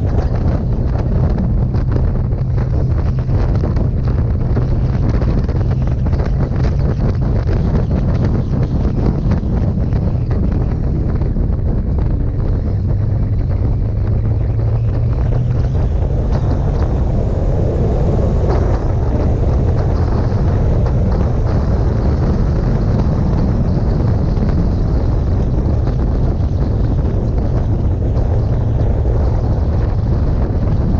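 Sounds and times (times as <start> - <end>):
motorcycle engine cruising: 0.0 - 30.9
wind buffeting microphone: 0.0 - 30.9.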